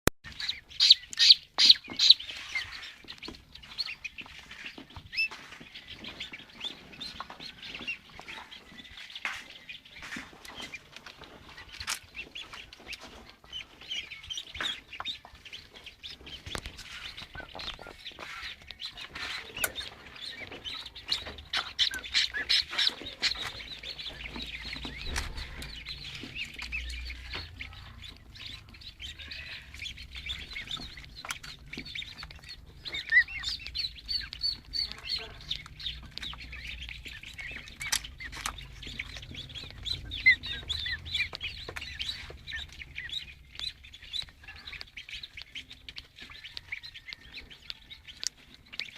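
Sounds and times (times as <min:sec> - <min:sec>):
chicks peeping: 0:00.2 - 0:48.9.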